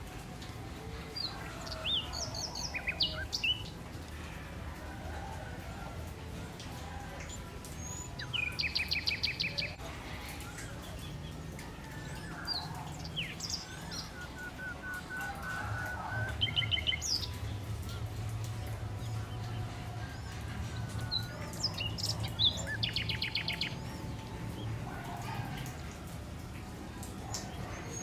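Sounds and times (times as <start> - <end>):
birds singing and chirping: 0.0 - 28.0.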